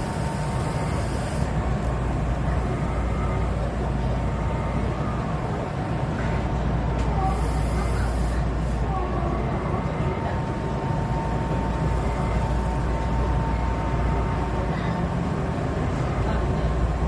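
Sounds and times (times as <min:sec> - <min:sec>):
thin steady whine: 0:00.0 - 0:17.0
train wheels and motors rumbling: 0:00.0 - 0:17.0.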